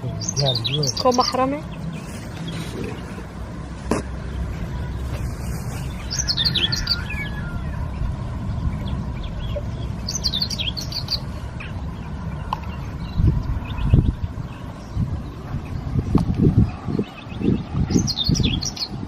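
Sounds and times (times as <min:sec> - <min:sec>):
songbird chirping: 0:00.0 - 0:19.0
steady low rumble: 0:00.0 - 0:19.0.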